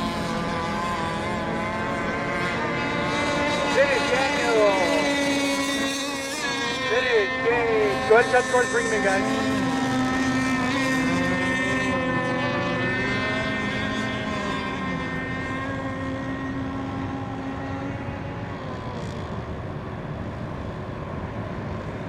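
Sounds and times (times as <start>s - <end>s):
radio-controlled boat engines buzzing: 0.0s - 22.0s.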